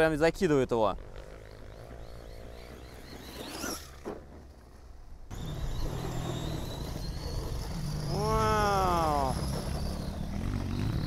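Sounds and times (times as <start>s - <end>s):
rc truck motor whine: 1.0s - 11.0s.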